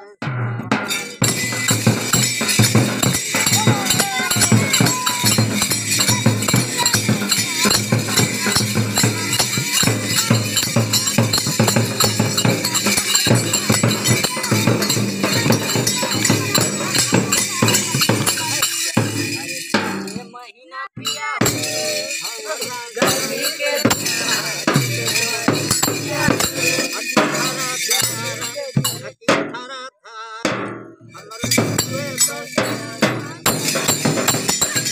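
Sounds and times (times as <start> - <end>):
voices singing: 0.0 - 34.9
hand drums beating fast rhythm: 0.2 - 20.3, 21.0 - 29.6, 30.5 - 34.9
metallic jingling: 0.8 - 20.4, 21.0 - 29.2, 31.1 - 34.9.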